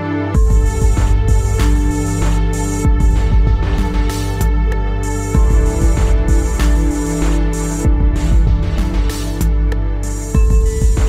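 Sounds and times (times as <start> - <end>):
loud music with heavy bass: 0.0 - 11.0.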